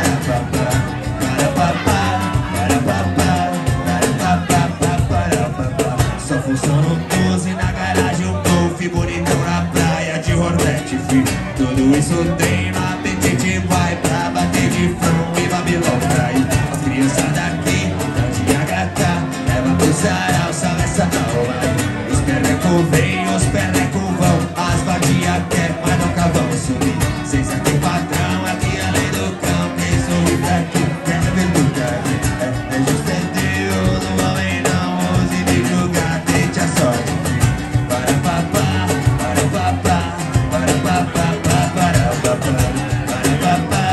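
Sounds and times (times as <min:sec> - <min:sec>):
cajon beat: 0:00.0 - 0:43.9
electric bass: 0:00.0 - 0:43.9
man singing: 0:00.0 - 0:43.9
strummed acoustic guitar: 0:00.0 - 0:43.9.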